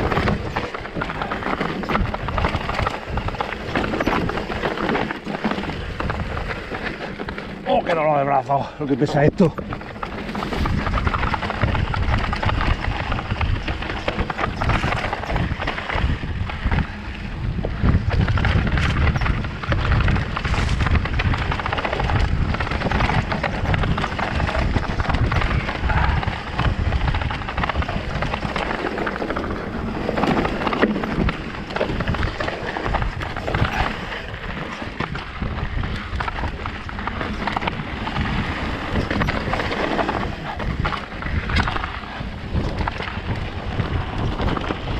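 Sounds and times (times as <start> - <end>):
bike tyres clattering over stones: 0.0 - 44.9
wind rumble on microphone: 0.0 - 44.9.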